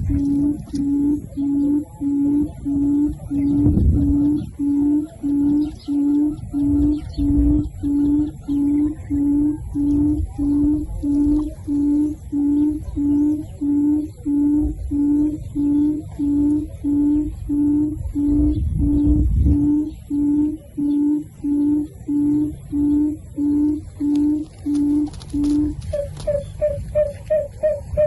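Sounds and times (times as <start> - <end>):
low hooting bird call: 0.0 - 28.0
low rumbling background: 0.0 - 28.0.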